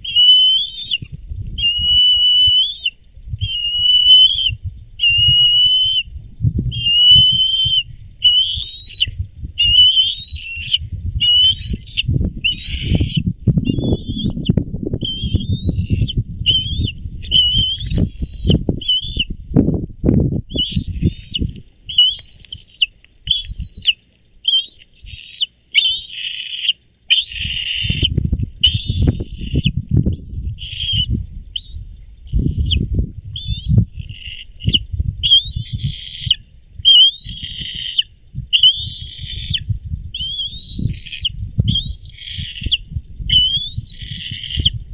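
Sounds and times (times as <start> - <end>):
eagles whistled calls: 0.0 - 6.1, 6.7 - 19.3, 20.5 - 44.8
low rumble: 1.0 - 2.1, 4.4 - 8.3, 8.9 - 23.8, 27.4 - 36.9, 38.1 - 44.9.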